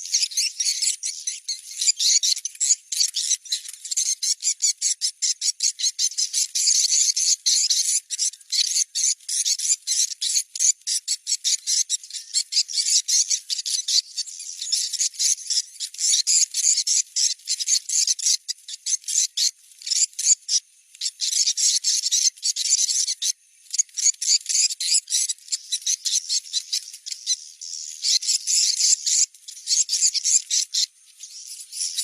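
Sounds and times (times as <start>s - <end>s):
high-pitched bird chirping: 0.0s - 32.0s.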